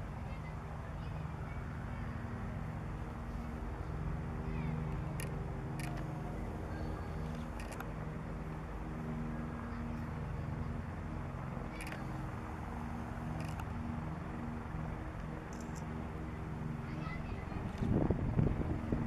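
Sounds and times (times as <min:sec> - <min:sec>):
helicopters droning: 0:00.0 - 0:19.0.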